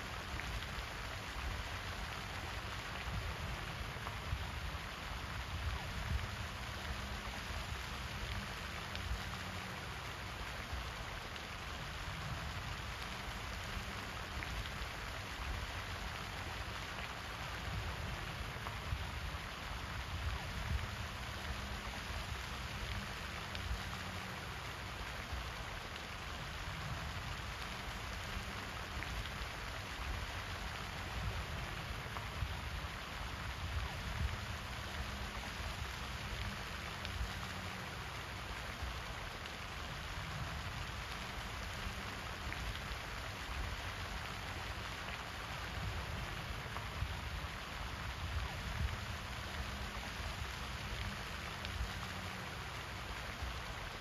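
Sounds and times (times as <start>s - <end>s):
fountain spray splashing on water: 0.0s - 54.0s.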